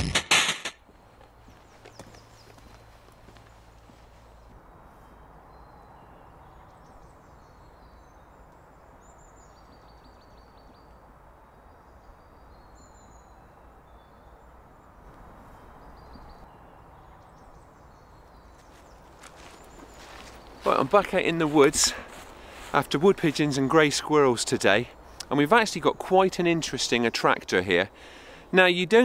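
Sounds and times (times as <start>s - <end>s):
small birds chirping: 1.2s - 29.0s.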